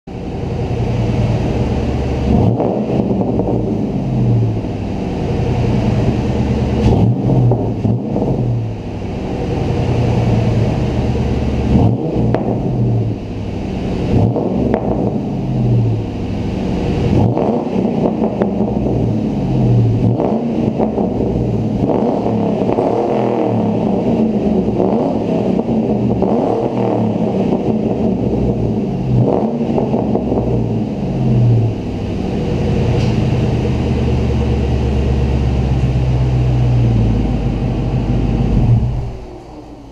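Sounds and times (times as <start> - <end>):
car engine revving: 0.1 - 39.9.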